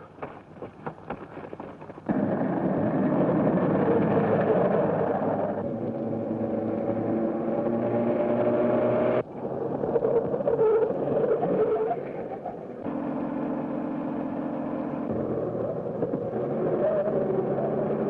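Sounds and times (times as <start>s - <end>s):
car engine running: 0.1s - 18.0s.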